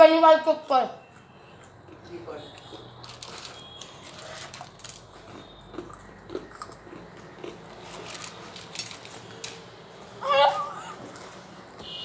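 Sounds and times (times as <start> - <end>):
people chewing food: 1.0 - 12.0.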